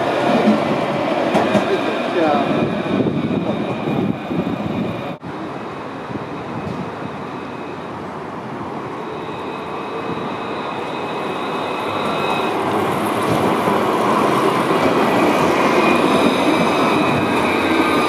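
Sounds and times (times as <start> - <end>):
tram passing: 0.0 - 18.0.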